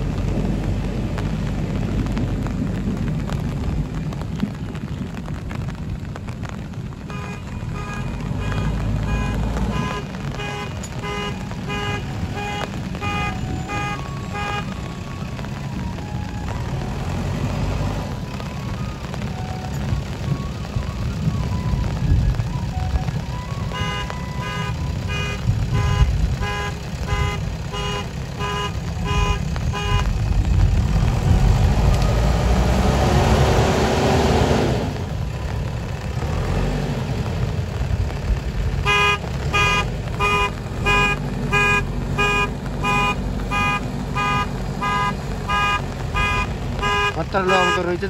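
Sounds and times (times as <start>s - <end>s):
diesel engine running: 8.0s - 48.0s.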